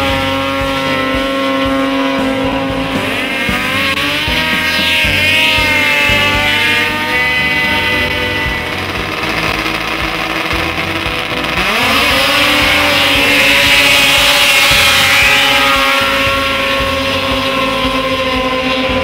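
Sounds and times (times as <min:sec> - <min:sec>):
snowmobile engines revving: 0:00.0 - 0:19.0.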